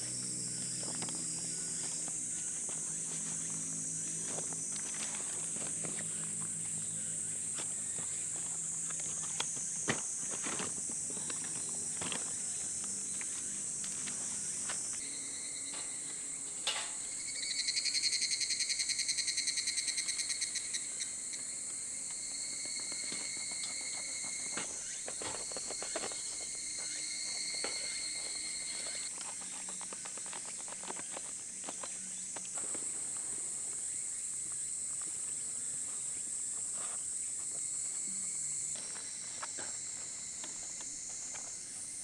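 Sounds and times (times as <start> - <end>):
chorus of summer insects: 0.0 - 42.0
insect pulsing call: 0.0 - 42.0.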